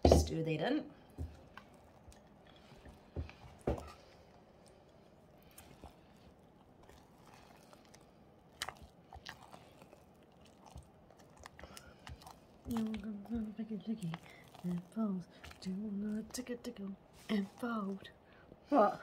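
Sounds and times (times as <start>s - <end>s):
spatula scraping wet filling: 1.1s - 18.1s.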